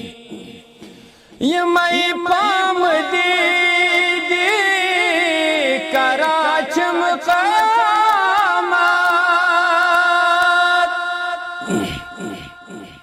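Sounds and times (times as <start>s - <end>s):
man singing unaccompanied: 1.4s - 13.0s.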